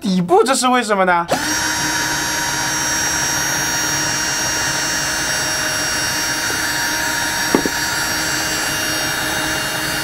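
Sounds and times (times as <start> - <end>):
electric drill whining: 1.3 - 10.0.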